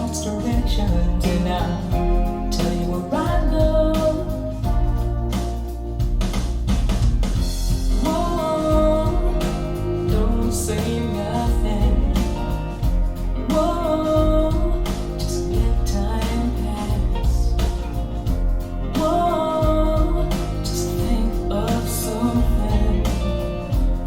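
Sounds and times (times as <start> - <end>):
song over loudspeakers: 0.0 - 6.0, 7.6 - 24.0.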